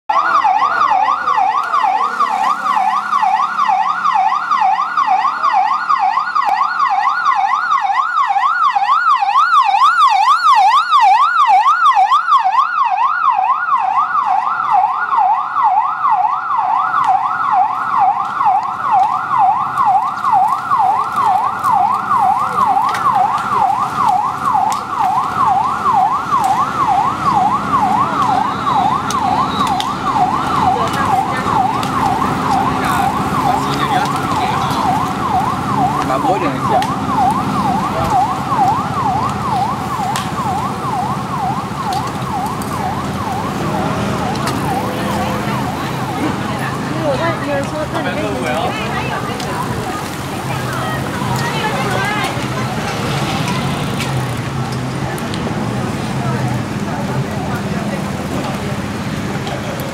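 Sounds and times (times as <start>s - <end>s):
police siren warbling: 0.1s - 59.9s.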